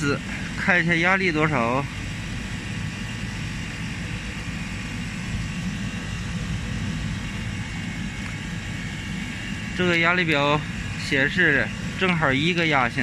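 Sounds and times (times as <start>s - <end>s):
refrigeration unit drone: 0.0s - 13.0s.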